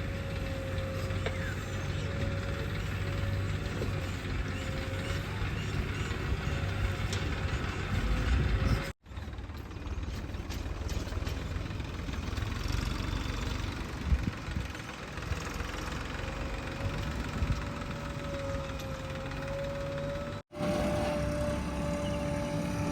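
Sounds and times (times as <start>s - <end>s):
heavy diesel engine running: 0.0s - 22.9s.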